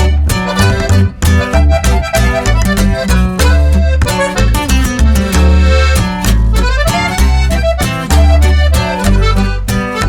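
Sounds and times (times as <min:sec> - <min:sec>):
lively music with plucked strings: 0:00.0 - 0:10.0
strong bass beat: 0:00.0 - 0:10.0.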